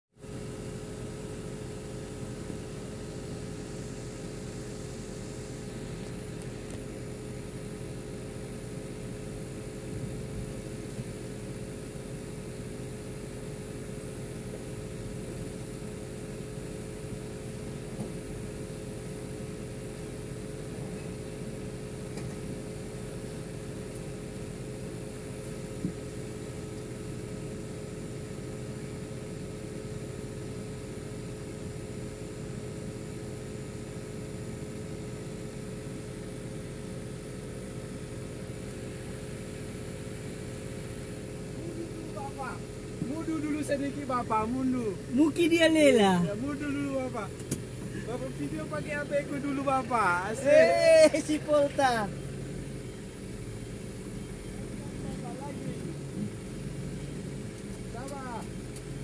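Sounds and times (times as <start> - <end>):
excavator diesel engine running: 0.3 - 59.0.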